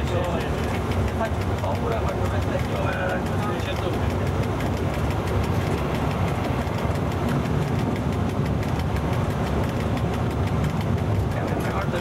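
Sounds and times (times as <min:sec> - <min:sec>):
electric locomotive rumble: 0:00.0 - 0:12.0.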